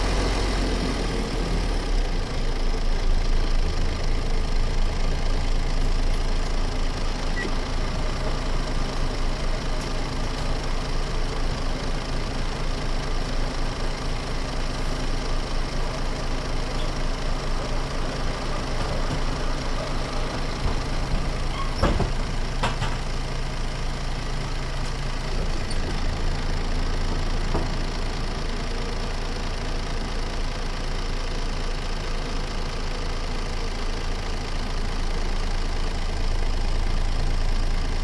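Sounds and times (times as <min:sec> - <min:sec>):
bus diesel engine idling: 0:00.0 - 0:38.0.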